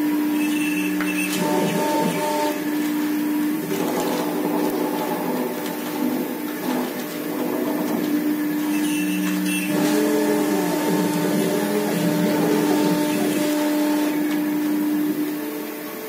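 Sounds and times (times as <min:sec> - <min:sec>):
drive motors shifting tones: 0:00.0 - 0:15.9
router spindle humming: 0:00.0 - 0:16.0.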